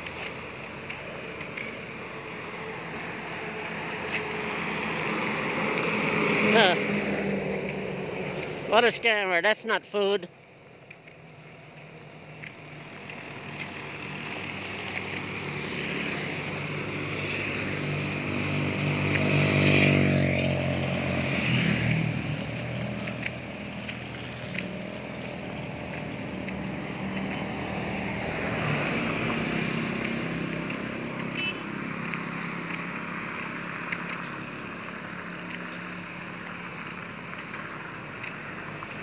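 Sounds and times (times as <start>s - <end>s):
vehicle engine passing by: 0.0s - 9.2s, 12.1s - 39.0s
traffic engine noise: 0.0s - 39.0s.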